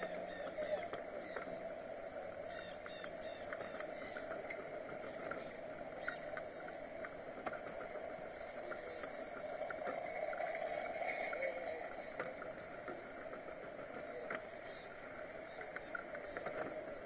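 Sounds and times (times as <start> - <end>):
bicycle rolling on asphalt: 0.0 - 17.0.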